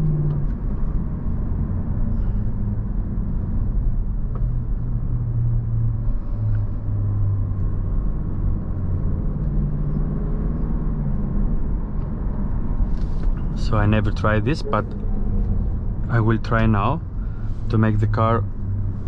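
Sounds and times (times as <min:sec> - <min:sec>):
car engine low drone: 0:00.0 - 0:19.0
road rumble: 0:00.0 - 0:19.0.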